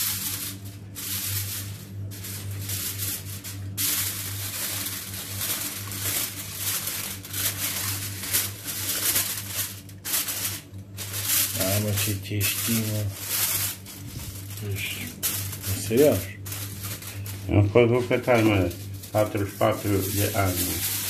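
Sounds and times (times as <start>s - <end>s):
aluminium foil crinkling: 0.0s - 21.0s
steady low hum: 0.0s - 21.0s.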